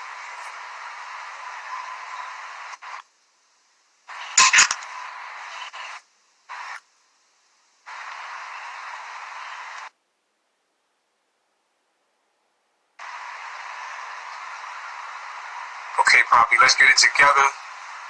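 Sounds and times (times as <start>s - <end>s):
call connection hiss: 0.0s - 9.9s, 13.0s - 18.0s.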